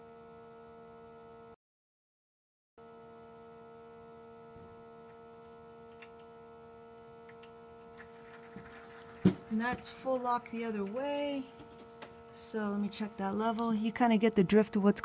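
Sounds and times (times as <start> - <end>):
faint steady hum of tones: 2.8 - 15.0.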